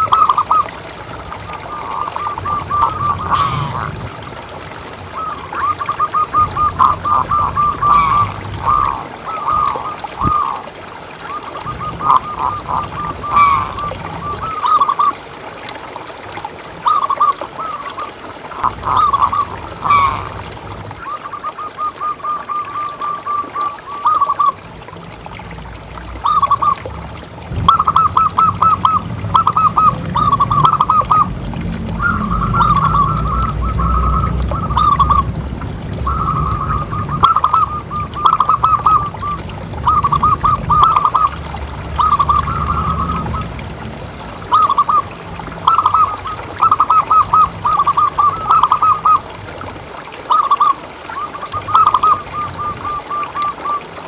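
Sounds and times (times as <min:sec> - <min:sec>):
doves cooing: 0:00.0 - 0:15.3, 0:16.8 - 0:24.6, 0:27.6 - 0:49.5, 0:50.2 - 0:54.0.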